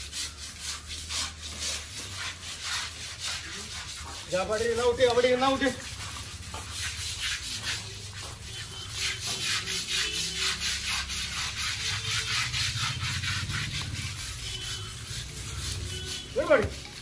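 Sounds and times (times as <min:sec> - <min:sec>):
hand scrubbing elephant hide: 0:00.0 - 0:17.0.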